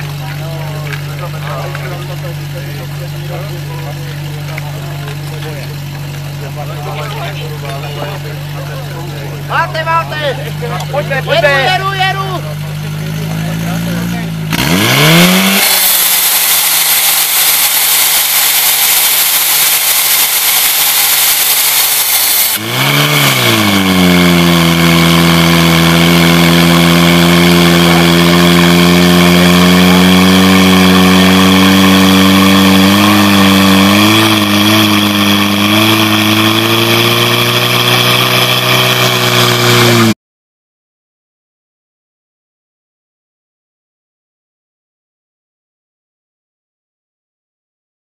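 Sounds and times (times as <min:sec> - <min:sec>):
pump engine running: 0:00.0 - 0:40.2.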